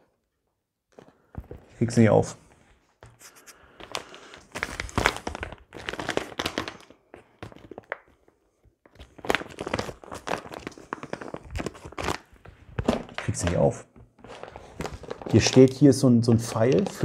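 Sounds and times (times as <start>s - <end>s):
plastic pouch crinkling: 3.3s - 17.0s.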